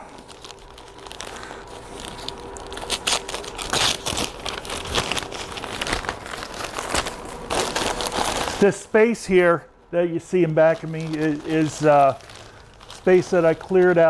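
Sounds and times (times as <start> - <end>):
newspaper rustling and crinkling: 0.0 - 8.8, 10.2 - 14.0.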